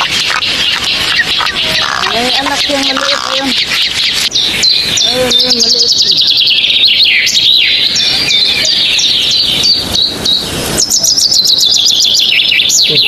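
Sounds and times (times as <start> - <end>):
birds chirping loudly: 0.0 - 13.0.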